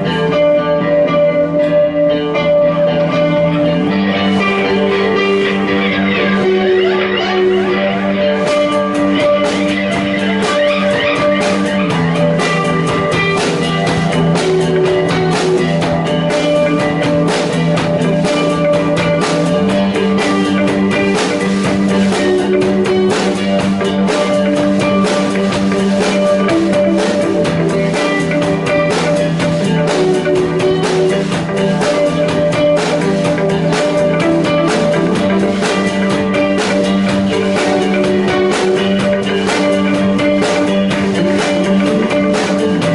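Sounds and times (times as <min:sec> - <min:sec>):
bass line: 0:00.0 - 0:42.9
drum kit beat: 0:00.0 - 0:42.9
guitars playing: 0:00.0 - 0:42.9.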